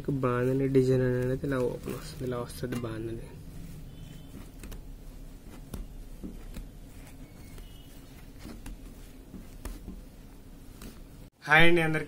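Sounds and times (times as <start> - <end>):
cloth rustling: 0.0 - 11.3
low steady hum: 0.0 - 11.3.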